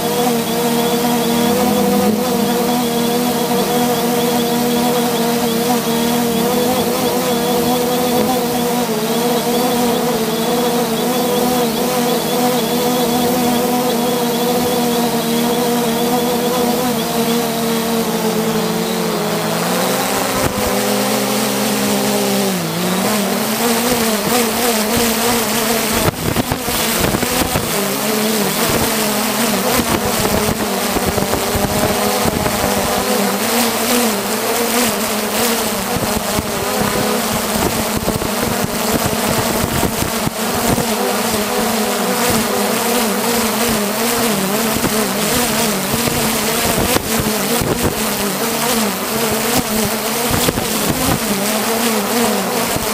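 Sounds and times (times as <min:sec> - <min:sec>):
drone propellers buzzing: 0:00.0 - 0:52.9.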